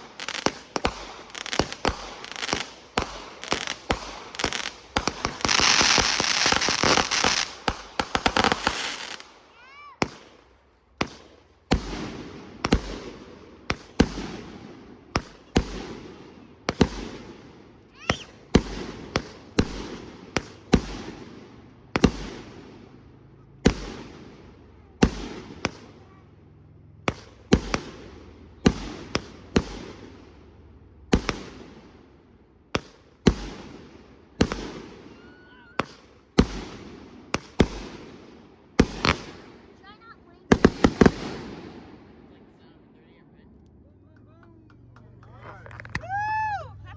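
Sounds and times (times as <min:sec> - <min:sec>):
fireworks bangs and booms: 0:00.0 - 0:46.9.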